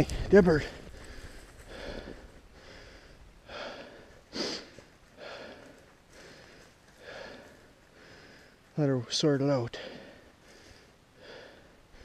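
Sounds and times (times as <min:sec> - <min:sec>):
person breathing heavily: 0:00.0 - 0:08.8, 0:09.7 - 0:12.0.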